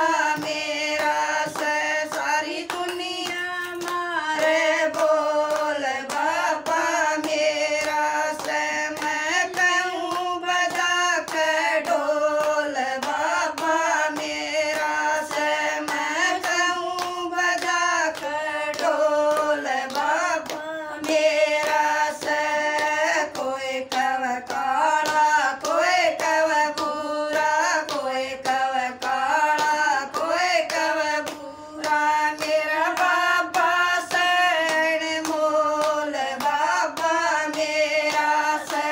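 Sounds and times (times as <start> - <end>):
hand claps: 0.0 - 38.9
women singing together: 0.0 - 38.9.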